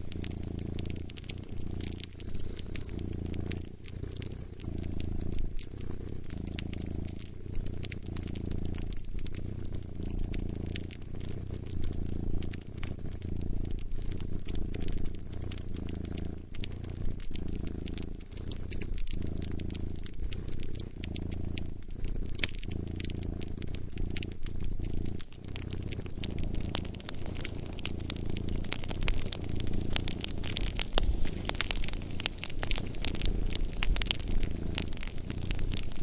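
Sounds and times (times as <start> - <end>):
cat purring: 0.0 - 36.0
wood fire crackling: 0.0 - 36.0.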